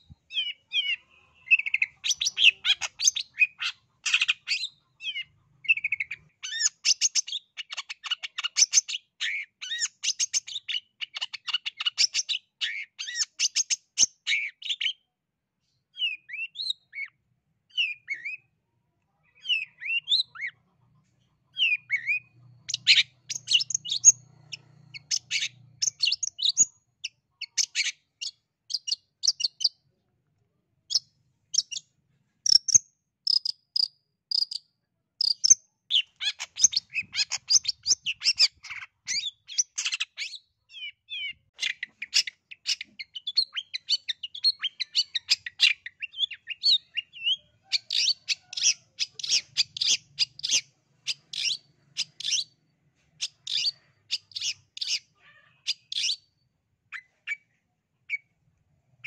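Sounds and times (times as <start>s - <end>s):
bird singing rapid chirps: 0.0s - 15.1s, 15.9s - 18.5s, 19.2s - 20.7s, 21.5s - 29.8s, 30.9s - 52.6s, 53.2s - 58.3s.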